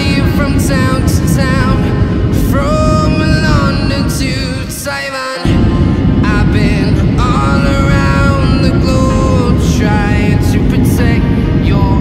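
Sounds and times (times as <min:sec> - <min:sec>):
airliner cabin rumble: 0:00.0 - 0:12.0
upbeat pop song with singing: 0:00.0 - 0:12.0.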